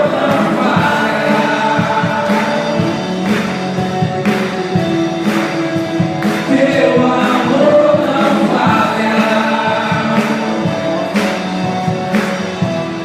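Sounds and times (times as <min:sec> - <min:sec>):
people singing: 0:00.0 - 0:04.6, 0:06.2 - 0:12.2
band playing gospel music: 0:00.0 - 0:13.0.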